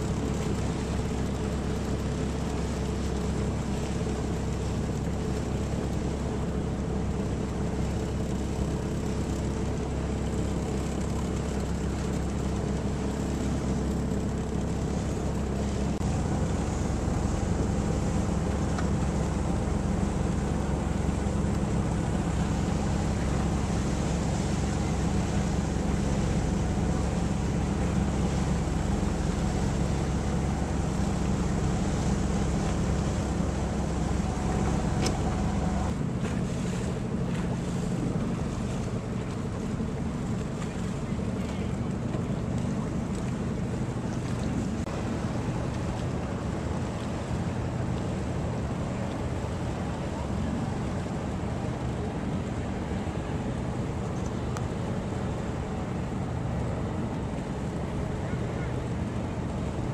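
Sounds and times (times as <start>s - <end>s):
boat engine running: 0.0s - 59.9s
wind and water rushing: 0.0s - 59.9s.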